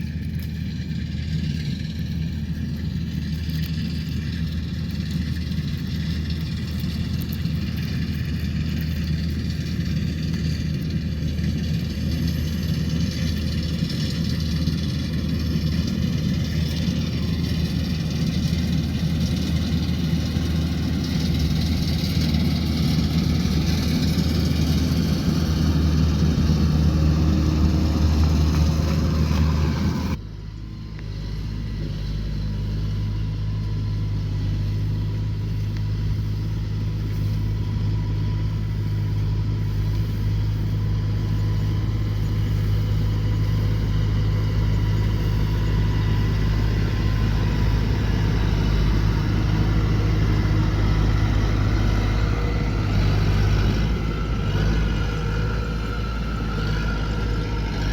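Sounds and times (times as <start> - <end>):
combine harvester engine drone: 0.0 - 57.9.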